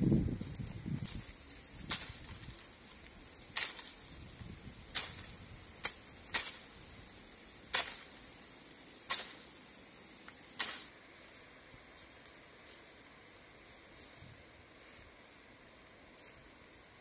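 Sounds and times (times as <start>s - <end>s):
rustle of leaves and branches: 0.0s - 17.0s.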